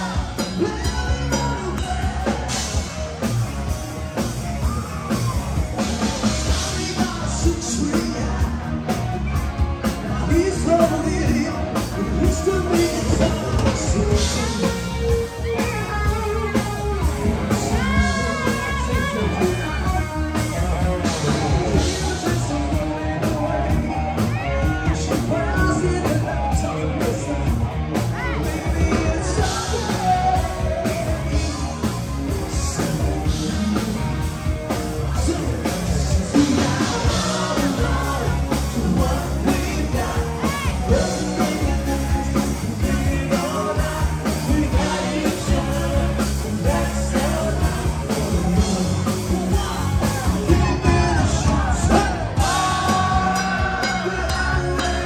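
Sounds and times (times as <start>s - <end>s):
live rock music with singer: 0.0s - 55.0s.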